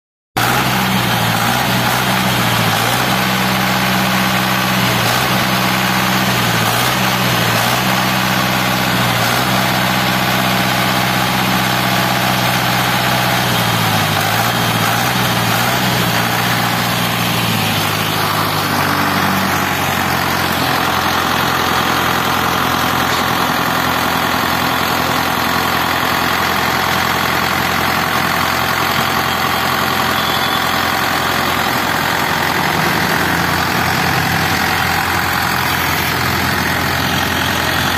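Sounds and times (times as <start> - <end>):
tractor diesel engine idling: 0.4 - 37.9.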